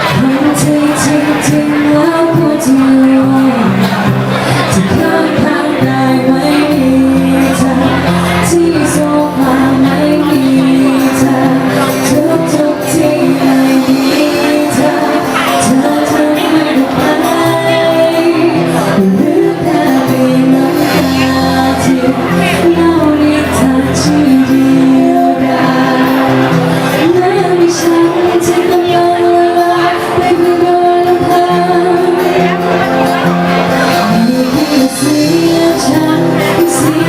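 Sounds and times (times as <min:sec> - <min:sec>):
live band playing pop song: 0:00.0 - 0:37.0
person singing: 0:00.0 - 0:37.0.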